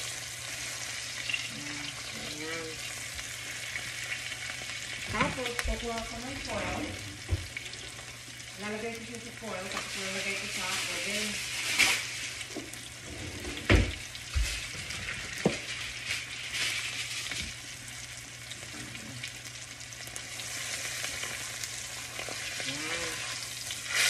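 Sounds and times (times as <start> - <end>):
steak sizzling in a frying pan: 0.0 - 24.0.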